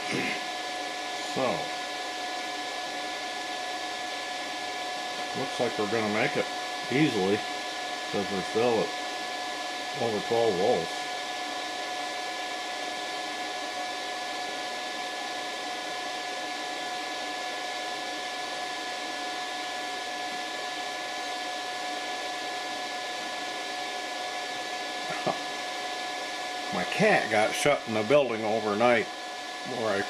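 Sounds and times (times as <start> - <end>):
cooling fan whine: 0.0 - 30.0.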